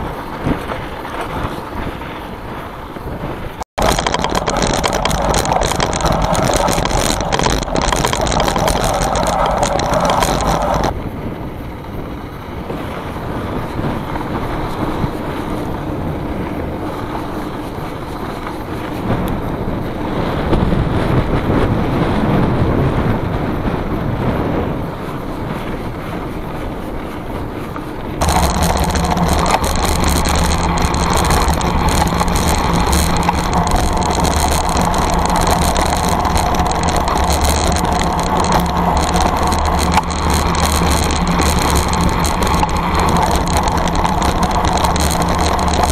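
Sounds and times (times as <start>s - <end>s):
bike tyres rolling on gravel: 0.0s - 45.9s
wind buffeting microphone: 0.0s - 45.9s.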